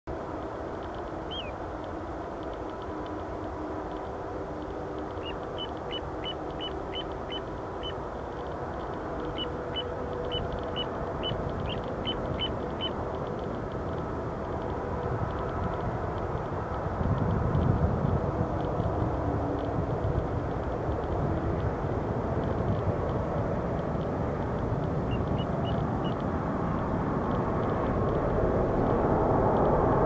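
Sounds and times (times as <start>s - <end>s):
distant jet airliner drone: 0.1s - 30.0s.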